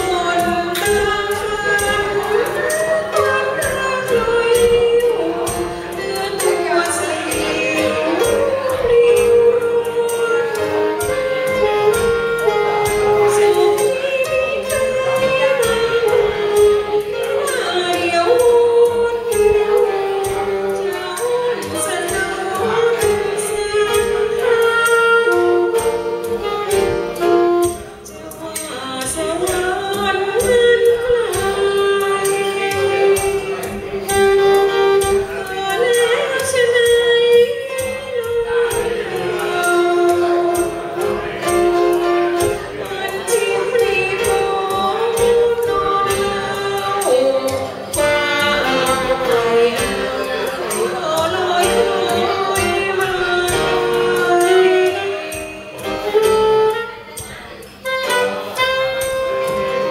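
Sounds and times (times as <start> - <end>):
piano accompaniment: 0.0 - 59.9
woman singing through microphone: 0.0 - 59.9.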